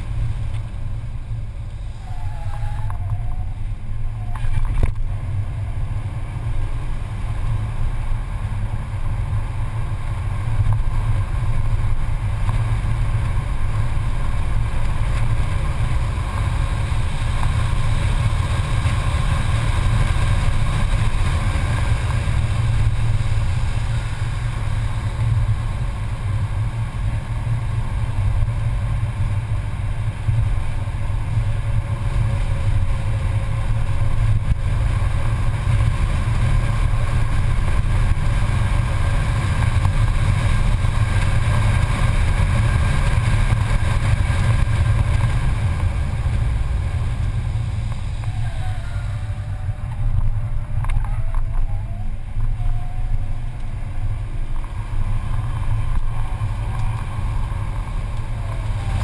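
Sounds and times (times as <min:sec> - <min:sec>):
car engine under load: 0:00.0 - 0:59.0
wind and road noise rumble: 0:00.0 - 0:59.0.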